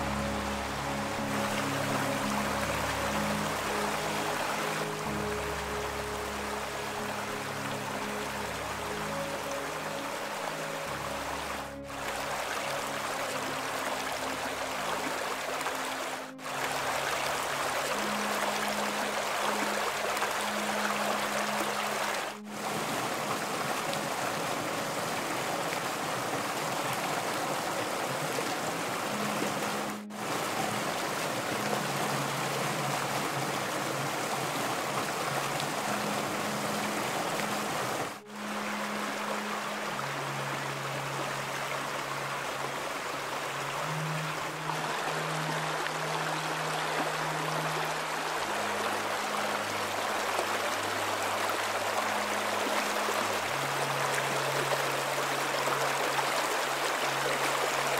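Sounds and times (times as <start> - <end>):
soft sustained music notes: 0.0 - 57.9
stream splashing over stones: 0.0 - 57.9.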